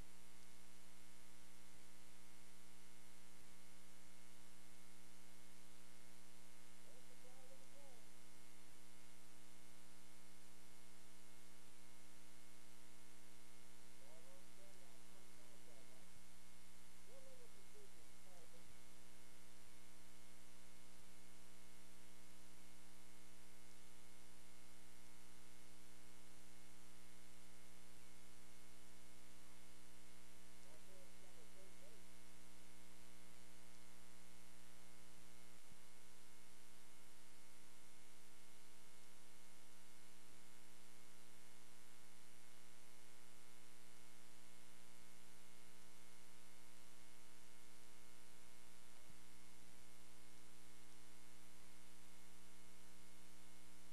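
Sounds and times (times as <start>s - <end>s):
electrical mains hum: 0.0s - 53.9s.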